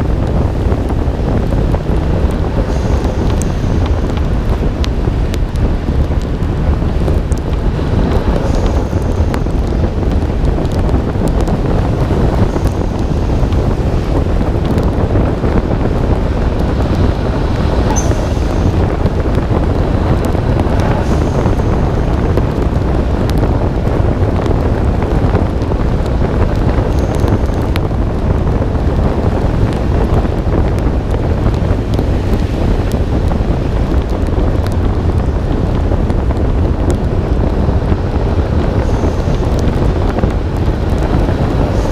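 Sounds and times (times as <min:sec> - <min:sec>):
car engine rumble: 0:00.0 - 0:41.9
wind roar on microphone: 0:00.0 - 0:41.9.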